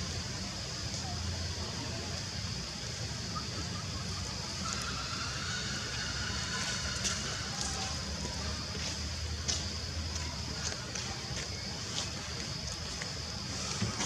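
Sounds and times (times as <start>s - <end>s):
constant high hiss: 0.0s - 14.0s.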